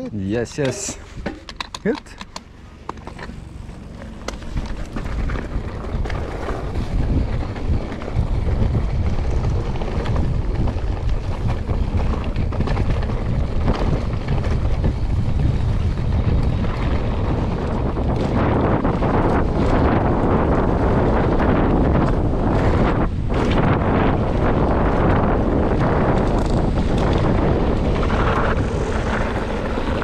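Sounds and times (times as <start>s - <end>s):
mountain bike rumble and rattle: 0.0s - 30.0s
wind buffeting microphone: 0.0s - 30.0s.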